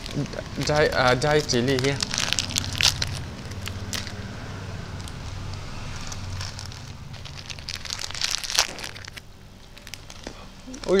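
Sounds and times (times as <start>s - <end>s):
plastic packet crinkling: 0.0s - 11.0s
low hum: 1.5s - 10.7s.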